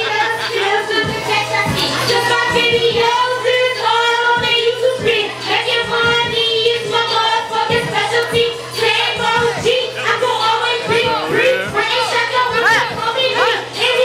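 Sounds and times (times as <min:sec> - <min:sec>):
hip-hop beat: 0:00.0 - 0:14.0
woman rapping into microphone: 0:00.0 - 0:14.0.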